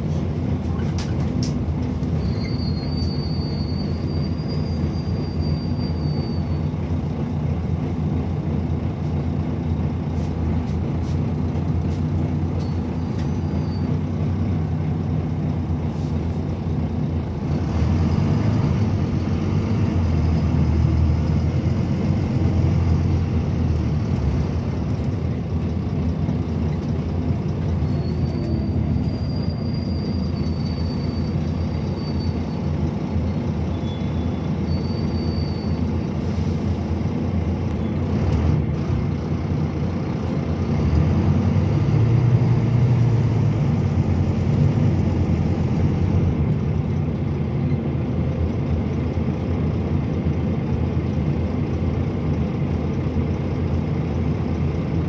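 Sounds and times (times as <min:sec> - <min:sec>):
bus diesel engine running: 0:00.0 - 0:55.0
road noise: 0:00.0 - 0:55.0.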